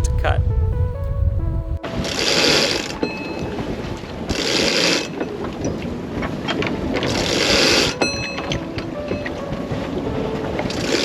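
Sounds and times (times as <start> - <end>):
wind on microphone: 0.0 - 11.0
water rushing along boat hull: 1.8 - 11.0.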